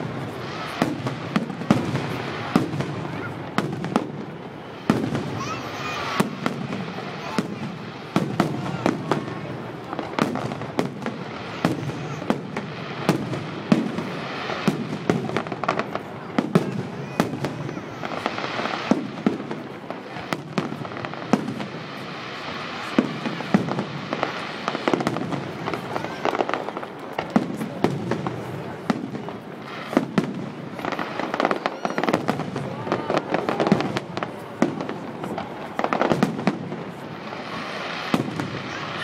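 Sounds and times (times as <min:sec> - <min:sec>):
fireworks bangs: 0:00.0 - 0:39.0
fireworks crackling: 0:00.0 - 0:39.0.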